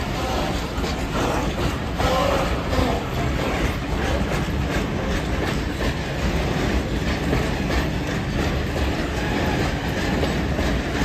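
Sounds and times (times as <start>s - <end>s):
freight train rumbling past: 0.0s - 11.0s
train wheels clacking over joints: 0.0s - 11.0s.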